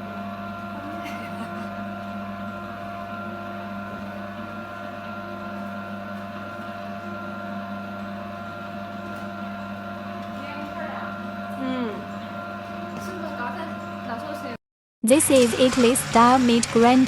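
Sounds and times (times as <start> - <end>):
meat grinder motor humming: 0.0 - 17.0.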